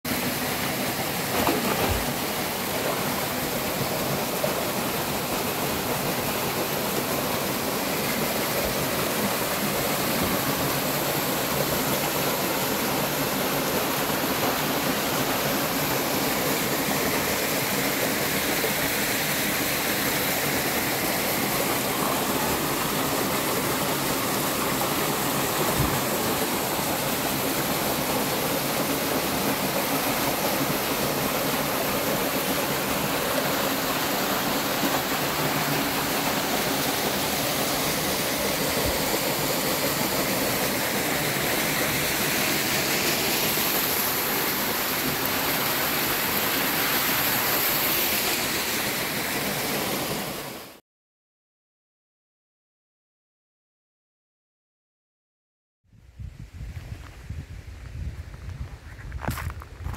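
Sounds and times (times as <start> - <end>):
running water rushing: 0.1 - 50.8.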